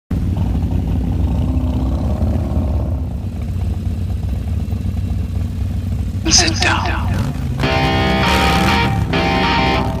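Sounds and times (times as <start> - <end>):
motorcycle engines idling: 0.1 - 10.0.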